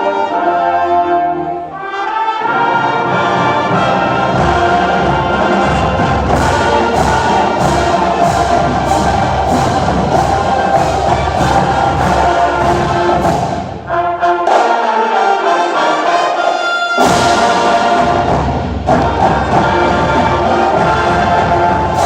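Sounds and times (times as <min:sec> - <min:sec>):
orchestral music with brass: 0:00.0 - 0:22.0.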